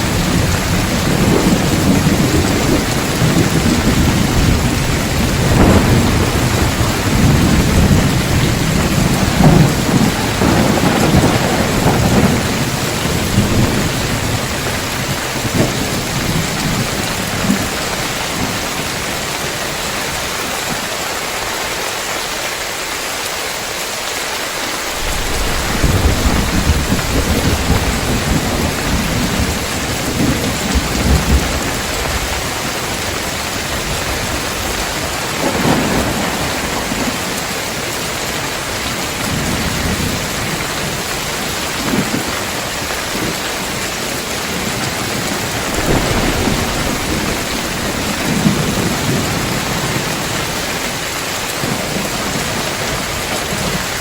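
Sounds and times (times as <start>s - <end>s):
thunder rumbling: 0.0s - 20.3s, 24.6s - 42.3s, 43.1s - 54.0s
heavy rain on a tiled roof: 0.0s - 54.0s.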